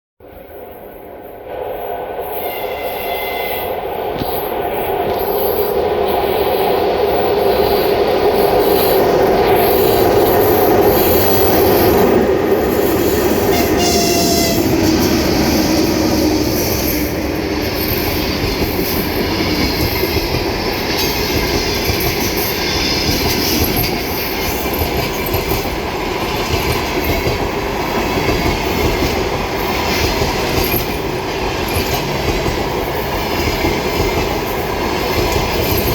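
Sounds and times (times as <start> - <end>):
train rolling past: 0.2 - 35.9.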